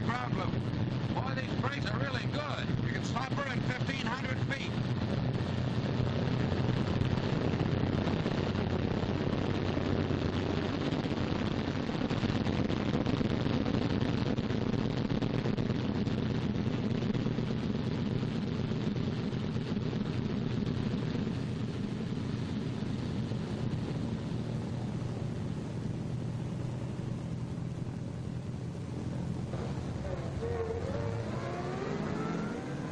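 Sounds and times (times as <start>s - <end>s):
aircraft engine roar: 0.0s - 32.9s.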